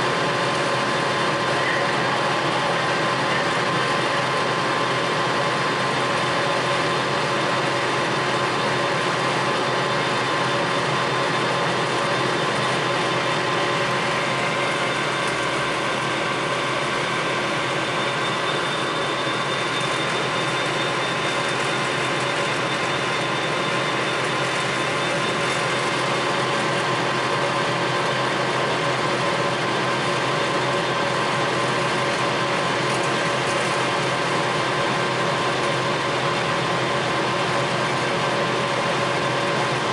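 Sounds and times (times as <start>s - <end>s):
lathe gear whine: 0.0s - 39.9s.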